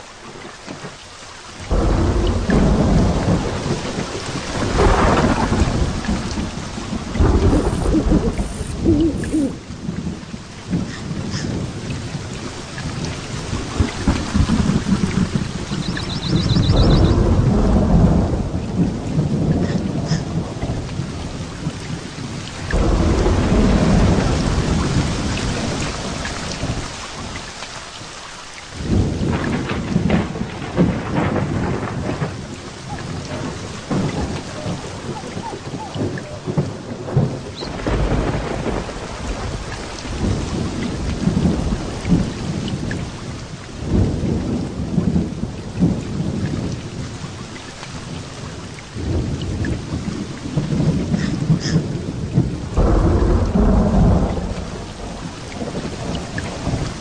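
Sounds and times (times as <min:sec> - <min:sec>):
heavy rain falling: 0:00.0 - 0:57.0
thunder rumbling: 0:01.7 - 0:27.4, 0:28.8 - 0:47.4, 0:48.0 - 0:57.0.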